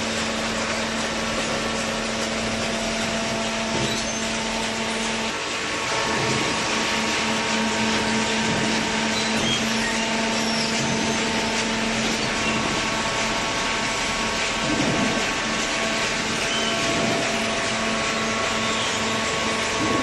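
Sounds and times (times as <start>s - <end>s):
hydraulic baler motor hum: 0.0s - 20.0s.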